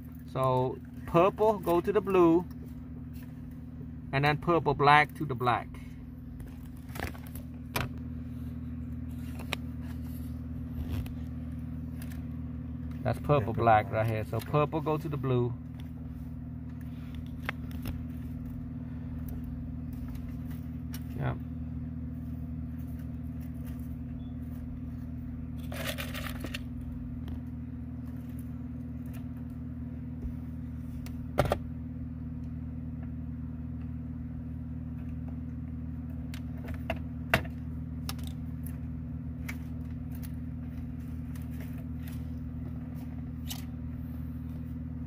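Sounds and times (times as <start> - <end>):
low hum: 0.0 - 45.0.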